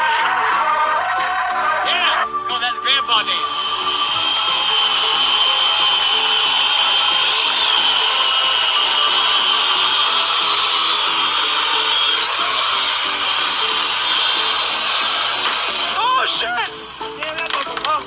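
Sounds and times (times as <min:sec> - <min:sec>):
chainsaw cutting tree: 0:03.0 - 0:18.0.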